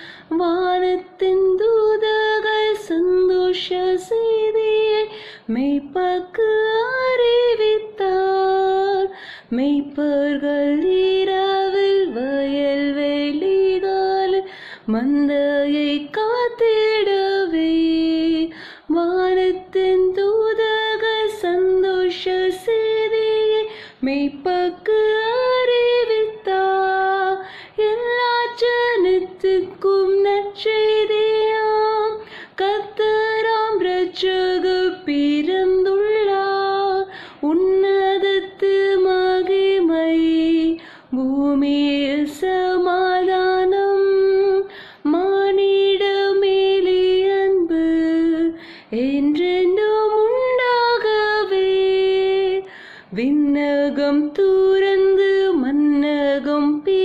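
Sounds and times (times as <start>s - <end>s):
woman singing unaccompanied: 0.0s - 57.0s.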